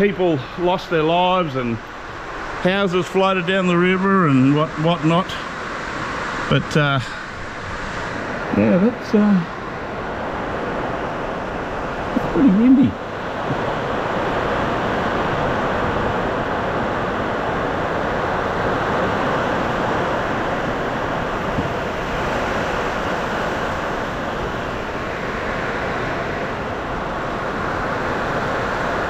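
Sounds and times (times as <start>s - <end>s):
heavy rain: 0.0s - 29.0s
strong wind: 0.0s - 29.0s.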